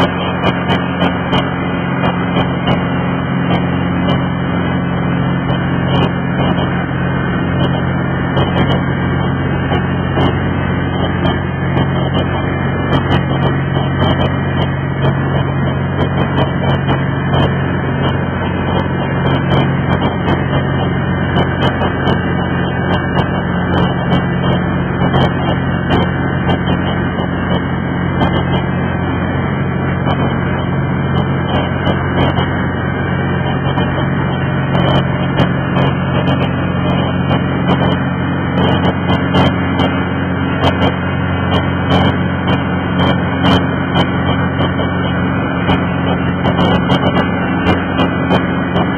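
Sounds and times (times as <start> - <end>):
boat motor humming: 0.0 - 48.9.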